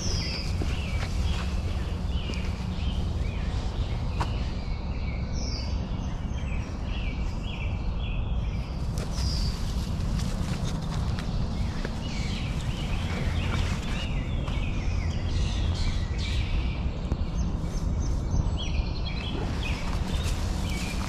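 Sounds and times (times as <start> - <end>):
songbirds chirping: 0.0 - 21.0
steady low rumble: 0.0 - 21.0.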